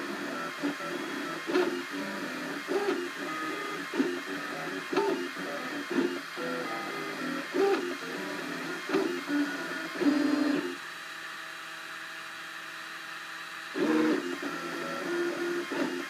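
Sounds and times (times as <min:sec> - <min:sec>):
printer stepper motors whining: 0:00.0 - 0:16.0.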